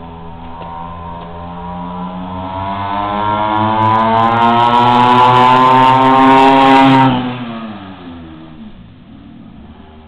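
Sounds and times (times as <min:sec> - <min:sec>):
two-stroke quad engine buzzing: 0:00.0 - 0:10.0.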